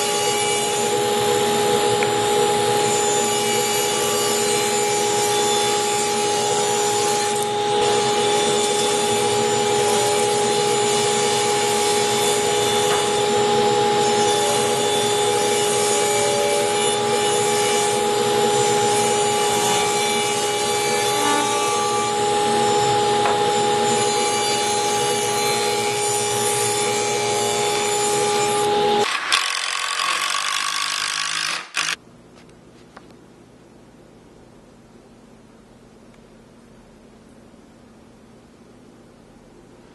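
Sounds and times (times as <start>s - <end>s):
table saw cutting wood: 0.0s - 32.0s.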